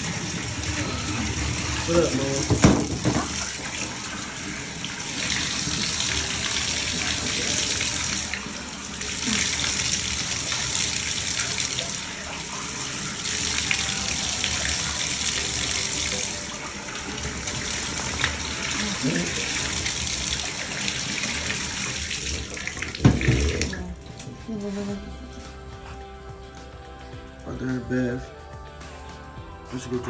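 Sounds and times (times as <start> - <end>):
bathtub tap running: 0.0 - 24.5.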